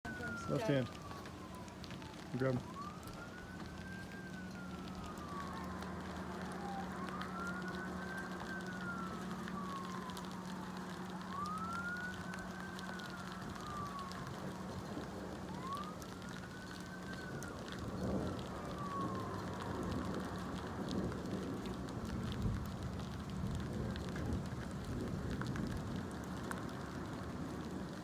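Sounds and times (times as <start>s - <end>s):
fire engine siren wailing: 0.0s - 28.0s.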